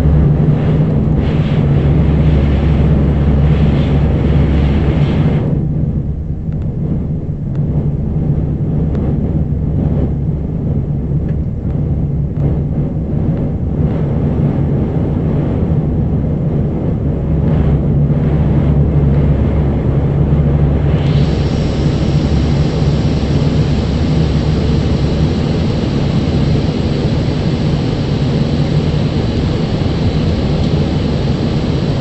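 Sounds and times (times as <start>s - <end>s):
airliner engine drone in cabin: 0.0s - 32.0s.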